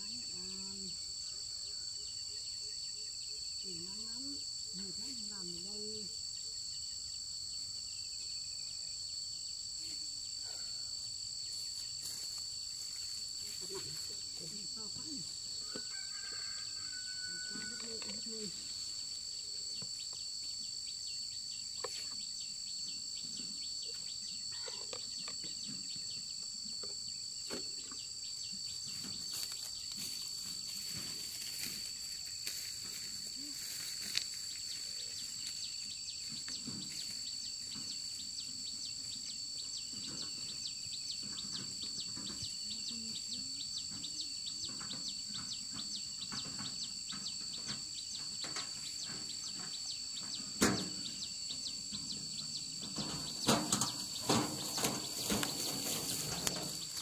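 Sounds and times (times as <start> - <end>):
insects droning high-pitched: 0.0 - 57.0.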